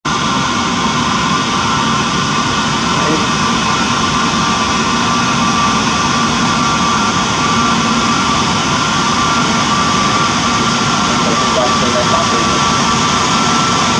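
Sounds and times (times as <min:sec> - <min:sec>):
jet engines idling with whine: 0:00.1 - 0:13.9.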